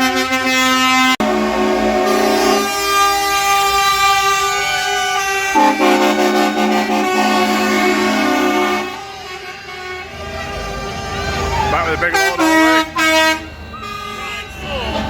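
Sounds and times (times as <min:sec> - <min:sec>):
truck air horns blasting: 0:00.0 - 0:15.0.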